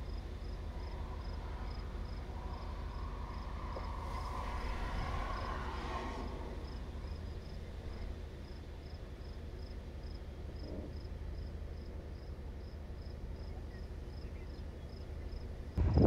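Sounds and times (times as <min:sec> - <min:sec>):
insect chirping: 0:00.0 - 0:15.7
low steady rumble: 0:00.0 - 0:16.0.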